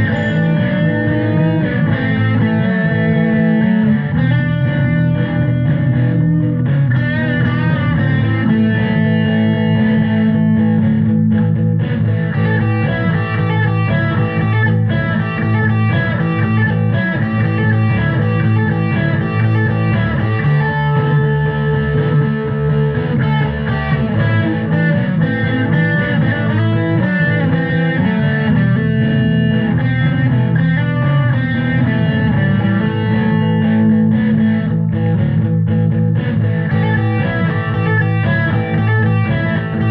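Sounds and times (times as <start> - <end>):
electric guitar and bass music: 0.0 - 39.9.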